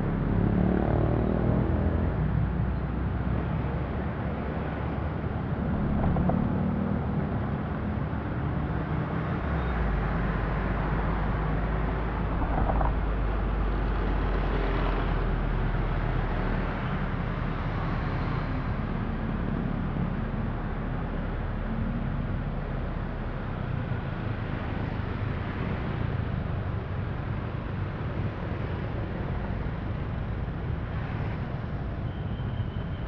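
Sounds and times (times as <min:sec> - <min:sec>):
car road noise rumble: 0:00.0 - 0:33.0
faint engine hum: 0:00.0 - 0:33.0.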